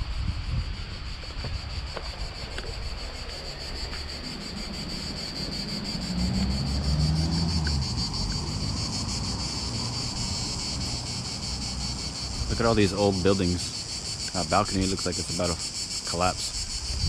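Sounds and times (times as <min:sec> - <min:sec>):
wind noise on microphone: 0:00.0 - 0:15.1, 0:15.7 - 0:17.0
insect chorus: 0:00.0 - 0:17.0.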